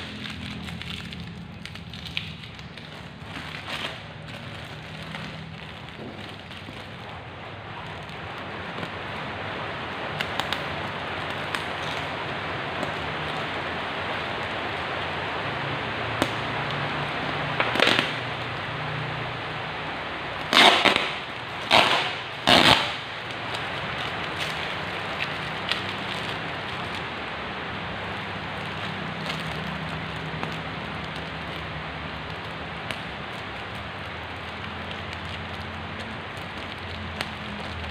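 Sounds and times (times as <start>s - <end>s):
packing tape ripping: 0.0s - 19.4s, 20.3s - 37.9s
plastic parcel crinkling: 0.0s - 19.7s, 20.3s - 37.9s.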